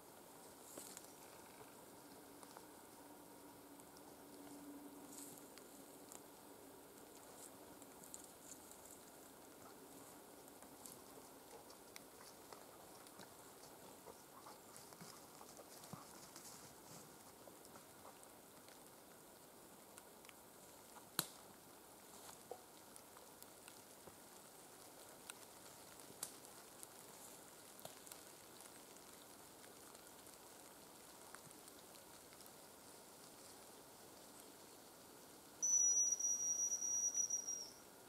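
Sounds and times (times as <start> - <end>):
faint crackles and ticks: 0.0 - 38.0.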